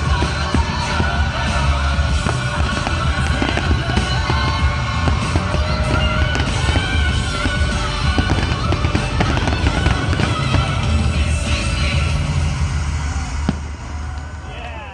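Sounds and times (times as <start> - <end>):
fireworks bursting: 0.0 - 14.9
music playing: 0.0 - 14.9.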